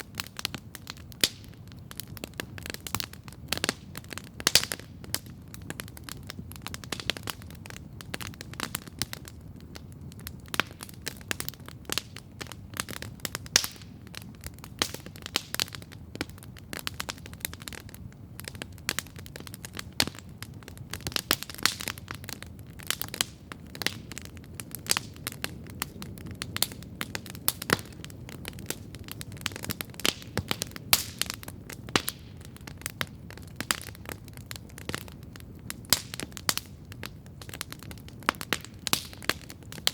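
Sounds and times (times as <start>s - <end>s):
campfire crackling and popping: 0.0s - 39.9s
flames rushing: 0.1s - 39.9s.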